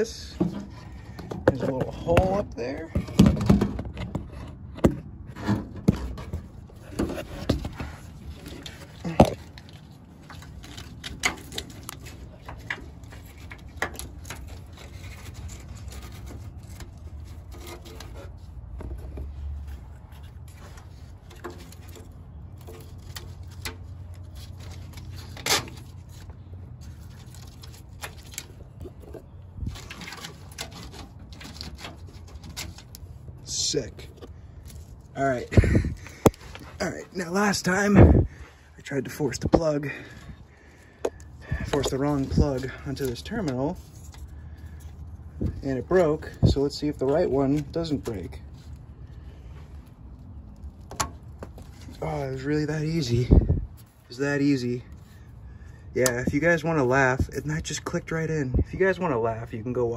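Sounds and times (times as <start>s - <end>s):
plastic parts clicking and scraping: 0.4s - 36.8s, 39.5s - 52.4s.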